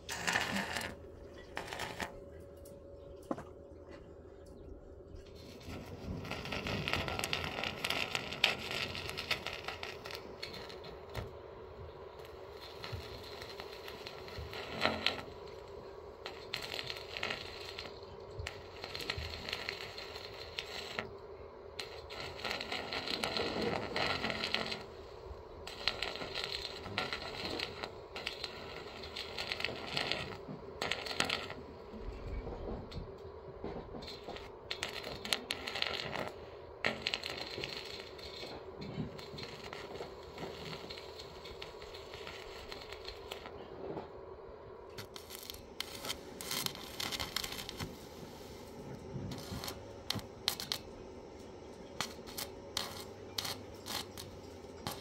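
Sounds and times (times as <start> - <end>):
arc welding crackle: 0.0 - 2.8, 5.3 - 55.0
faint steady hum: 0.0 - 55.0.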